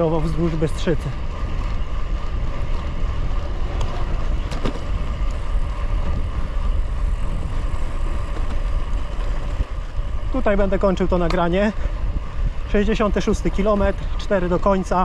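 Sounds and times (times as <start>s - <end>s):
faint rolling hum: 0.0s - 15.0s
wind buffeting microphone: 0.0s - 15.0s.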